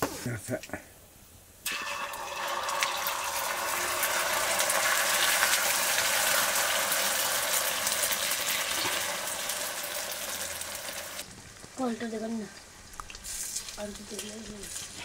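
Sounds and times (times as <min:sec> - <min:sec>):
egg sizzling in hot oil: 0:01.6 - 0:15.0.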